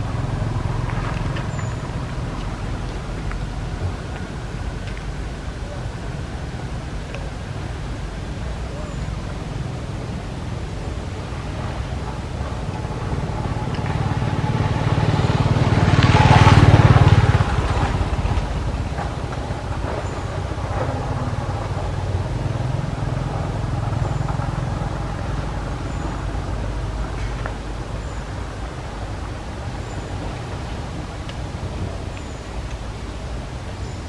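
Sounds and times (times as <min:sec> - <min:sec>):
vehicle engine rumble passing: 0:00.0 - 0:34.0.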